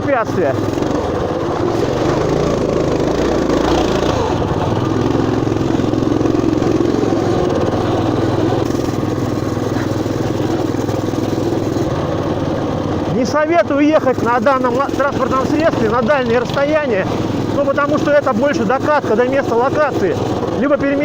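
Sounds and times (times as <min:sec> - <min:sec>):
mini-bike engine running: 0:00.0 - 0:21.0.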